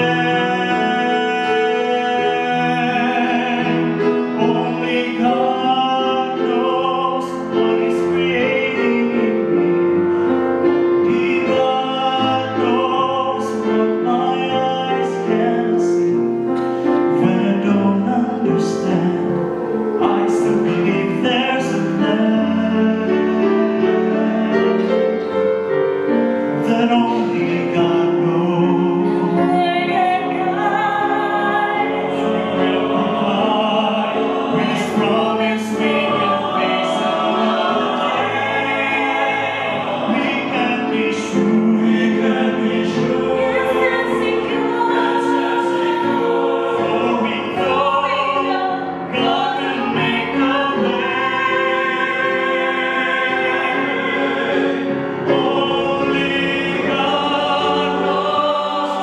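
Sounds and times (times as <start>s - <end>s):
vocal ensemble singing in harmony: 0.0s - 59.0s.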